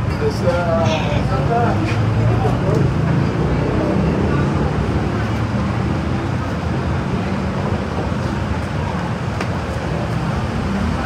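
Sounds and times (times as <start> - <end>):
people's voices: 0.0 - 11.0
road traffic: 0.0 - 11.0.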